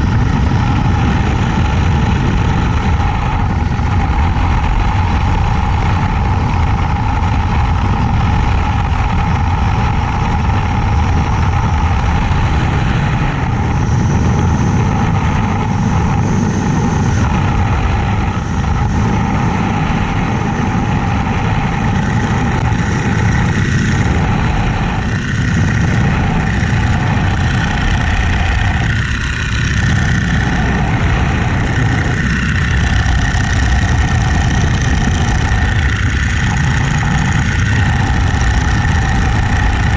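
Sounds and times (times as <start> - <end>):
biplane engine and propeller: 0.0 - 39.9.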